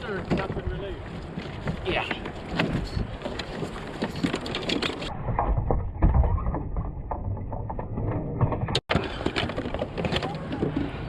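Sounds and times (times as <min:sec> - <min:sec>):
knocking and scraping on kayak: 0:00.0 - 0:11.0
water: 0:00.0 - 0:11.0
wind: 0:00.0 - 0:11.0.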